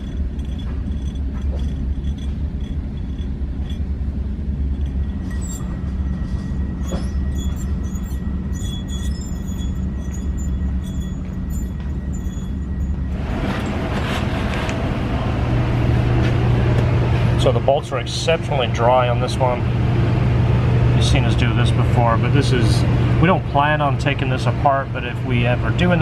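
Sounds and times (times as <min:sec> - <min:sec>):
bearing rolling rumble: 0:00.0 - 0:26.0
thin whine: 0:00.0 - 0:26.0.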